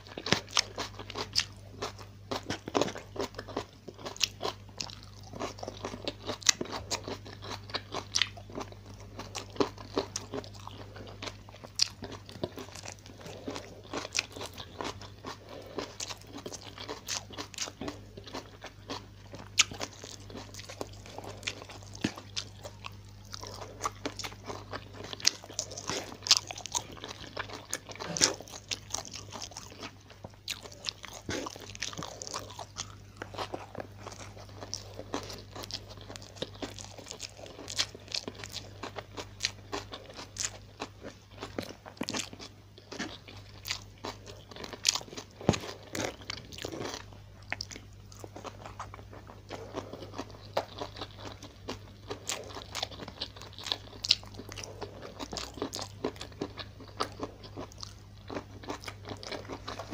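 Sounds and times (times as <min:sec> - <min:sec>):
constant low hum: 0:00.0 - 0:59.9
crunching and wet chewing: 0:00.0 - 0:59.9.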